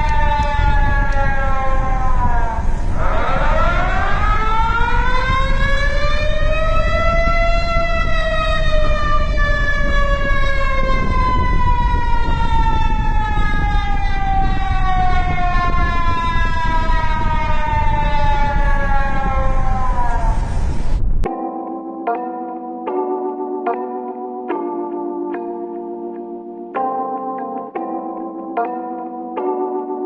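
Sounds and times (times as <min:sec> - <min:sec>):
emergency alert siren: 0:00.0 - 0:30.0.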